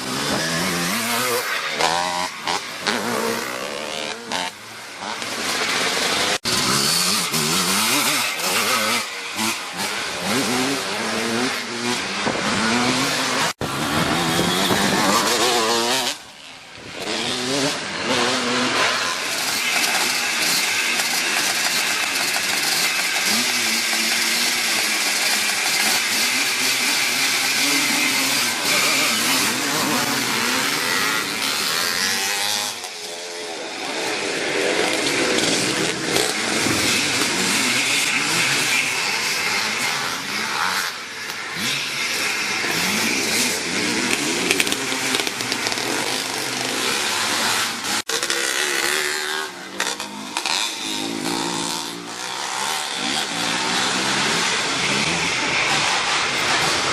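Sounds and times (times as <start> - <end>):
motorcycles revving and racing past: 0.0 - 56.9.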